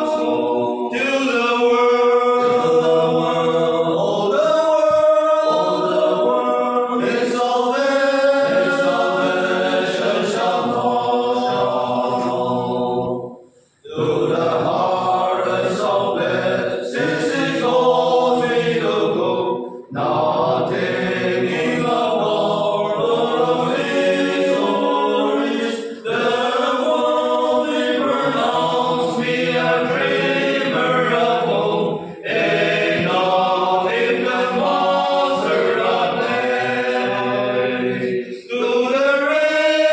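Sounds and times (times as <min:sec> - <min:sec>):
group of men singing a hymn: 0:00.0 - 0:39.9.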